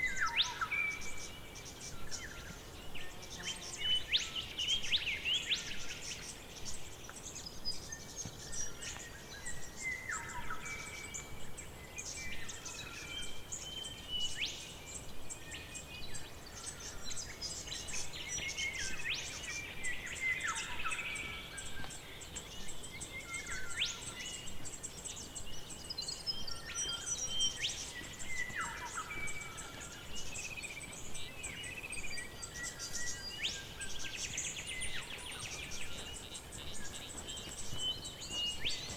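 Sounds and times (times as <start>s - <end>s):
birds calling and singing: 0.0s - 38.9s.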